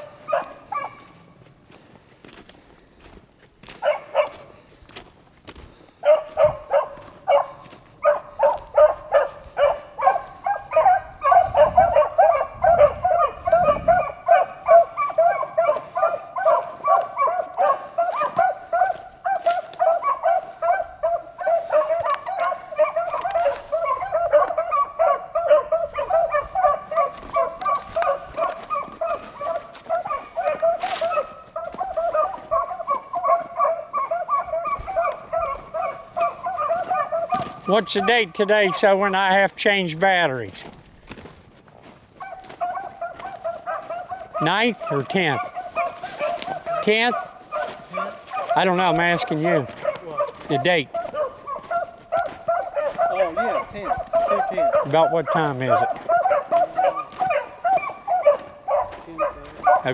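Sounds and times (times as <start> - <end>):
beagles baying and yelping: 0.0 - 59.9.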